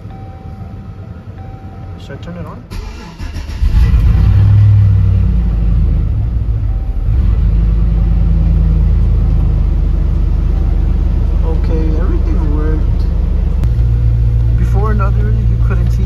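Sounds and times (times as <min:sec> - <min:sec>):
truck engine starting and idling: 0:00.0 - 0:16.0.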